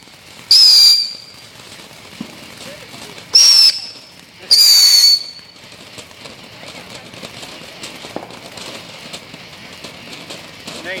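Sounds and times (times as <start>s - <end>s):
firework whistles: 0.0s - 11.0s.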